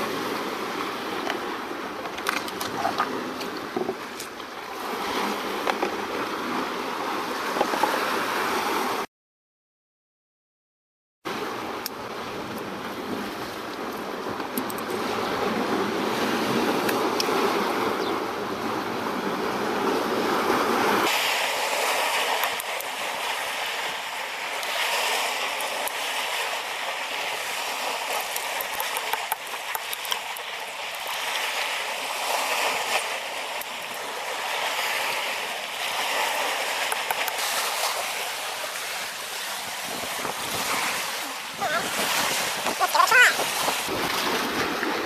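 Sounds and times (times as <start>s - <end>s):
surf washing against rocks: 0.0s - 9.1s, 11.3s - 45.0s.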